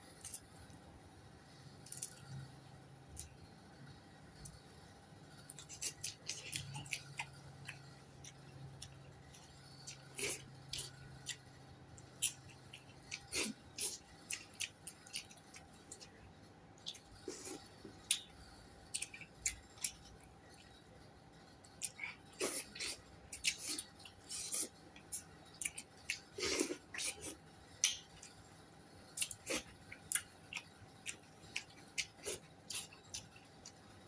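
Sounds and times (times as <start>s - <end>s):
chewing: 0.2s - 0.8s, 1.8s - 3.4s, 5.4s - 20.8s, 21.6s - 34.0s.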